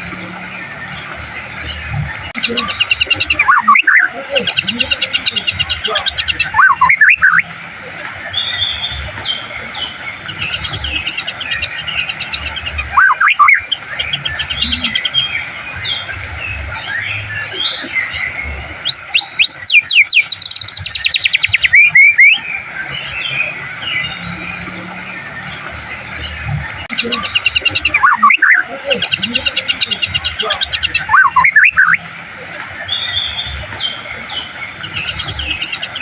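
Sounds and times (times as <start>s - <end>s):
bird song whistles and chatter: 0.0s - 36.0s
fast bird trill: 0.0s - 36.0s.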